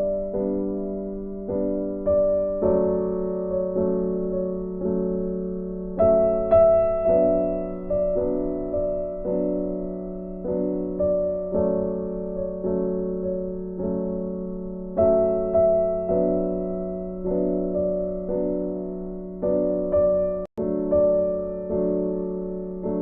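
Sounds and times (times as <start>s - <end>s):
soft piano melody: 0.0s - 23.0s.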